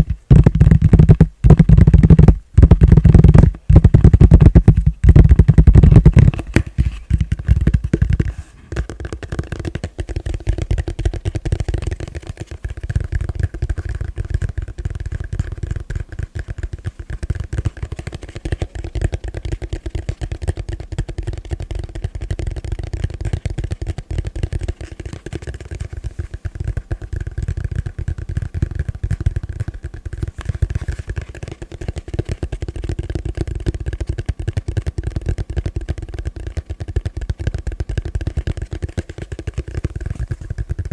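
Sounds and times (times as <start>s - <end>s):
fast tapping on plastic bowl: 0.0s - 40.9s.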